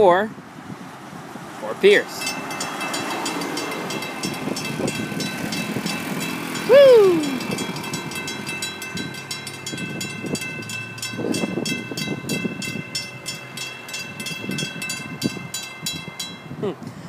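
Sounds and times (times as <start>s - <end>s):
crossing warning bell ringing: 2.0s - 16.6s.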